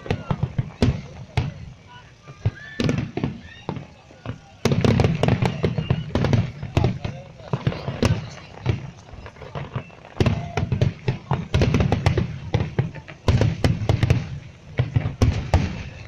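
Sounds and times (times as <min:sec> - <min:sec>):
fireworks crackling and booming: 0:00.0 - 0:16.0.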